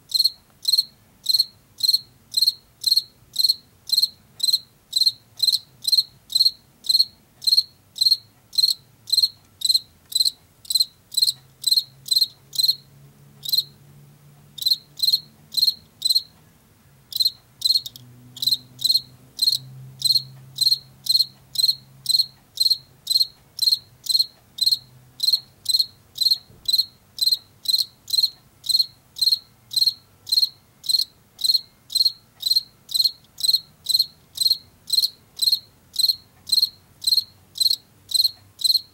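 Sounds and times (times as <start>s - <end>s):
cricket chirping: 0.1s - 13.8s, 14.6s - 16.3s, 17.1s - 38.9s.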